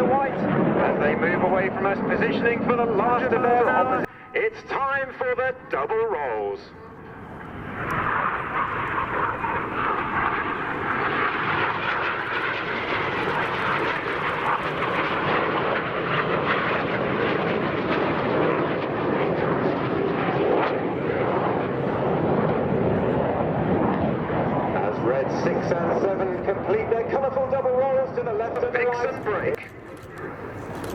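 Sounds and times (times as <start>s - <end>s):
jet engines roaring: 0.0s - 30.9s.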